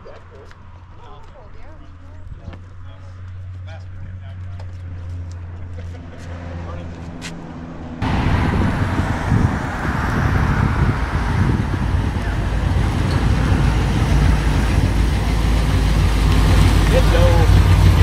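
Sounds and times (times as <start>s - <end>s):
car engine deep rumble: 0.0s - 18.0s.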